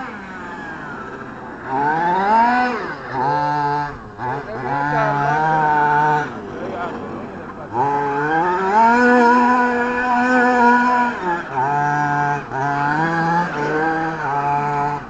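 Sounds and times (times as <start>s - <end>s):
toy truck motor revving: 0.0s - 15.0s.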